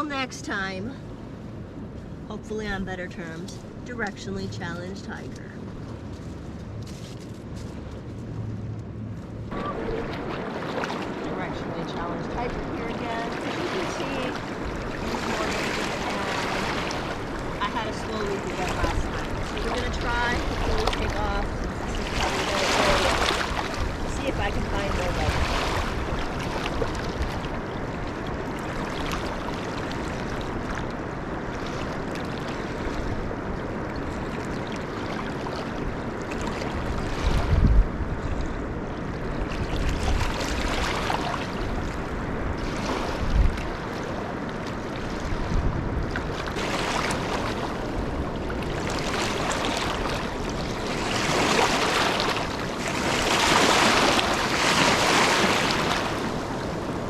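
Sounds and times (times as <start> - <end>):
flowing river water: 0.0 - 57.0
wind buffeting microphone: 0.6 - 57.0.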